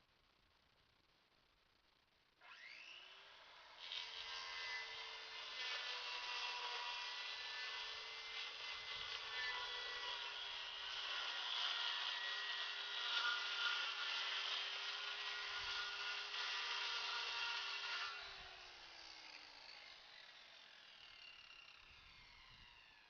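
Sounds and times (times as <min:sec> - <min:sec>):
power saw cutting plywood: 0:02.4 - 0:23.0.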